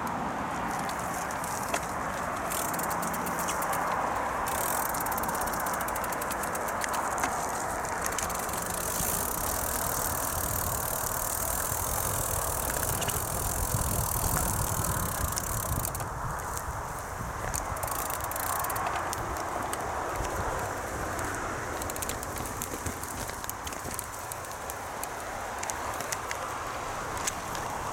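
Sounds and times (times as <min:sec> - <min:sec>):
bicycle rattling: 0:00.0 - 0:27.9
bicycle tyre and wind rush: 0:00.0 - 0:27.9.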